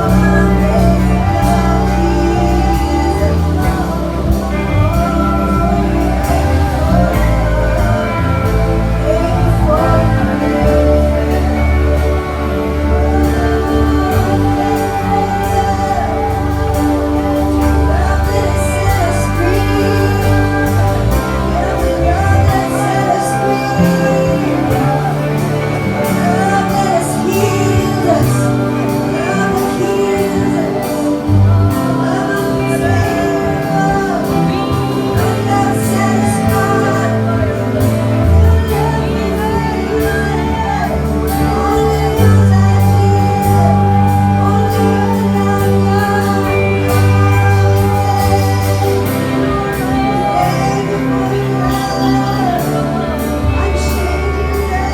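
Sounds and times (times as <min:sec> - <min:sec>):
low bass line: 0:00.0 - 0:54.9
people singing worship music: 0:00.0 - 0:54.9
sustained instrumental chords: 0:00.0 - 0:54.9.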